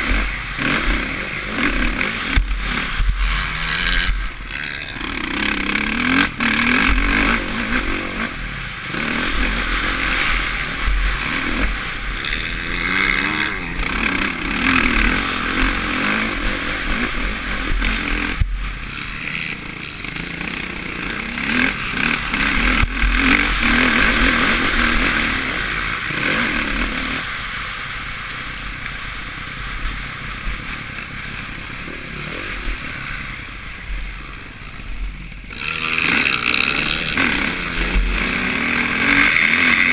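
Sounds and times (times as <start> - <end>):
motocross engine revving: 0.0 - 28.4, 29.5 - 39.9.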